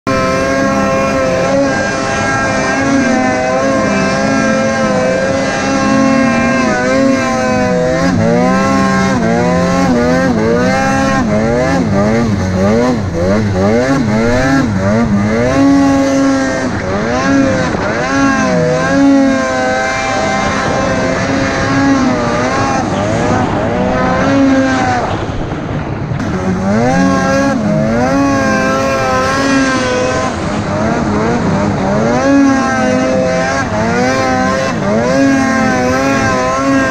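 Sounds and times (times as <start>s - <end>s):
snowmobile engine revving high: 0.0s - 36.9s.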